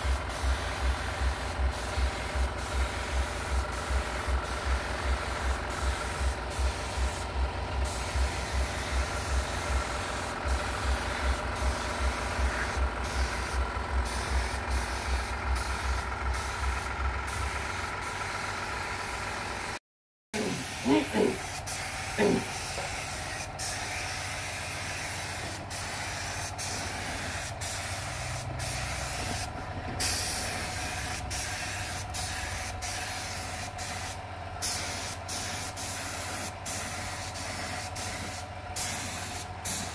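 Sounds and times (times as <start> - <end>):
spray gun hissing: 0.0 - 18.2, 20.4 - 39.9
air compressor pulsing: 0.0 - 19.8, 20.4 - 39.9.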